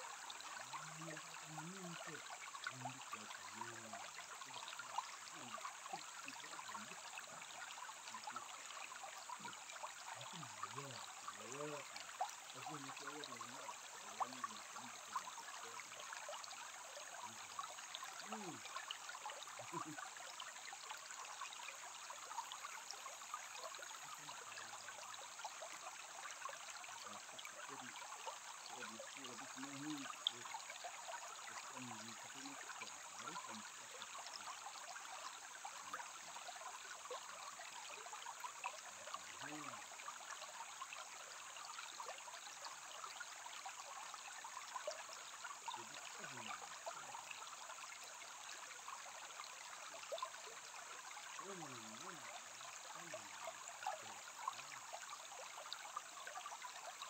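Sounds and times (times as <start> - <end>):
stream trickling over pebbles: 0.0 - 57.0.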